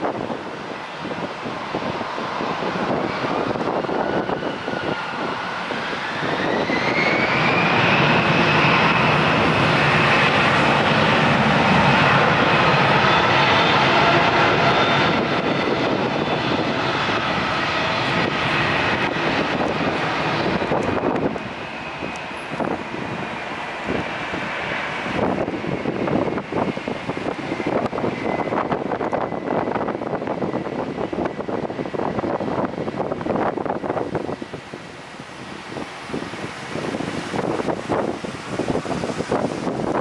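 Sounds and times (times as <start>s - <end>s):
jet engines spooling up: 0.0s - 40.0s.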